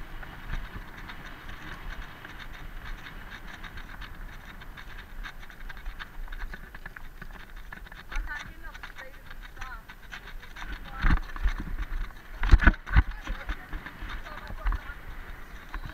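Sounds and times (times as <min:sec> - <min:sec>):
bike tyre rumble on asphalt: 0:00.0 - 0:15.9
rattling clicks from bike: 0:00.0 - 0:15.9
wind on microphone: 0:00.0 - 0:15.9.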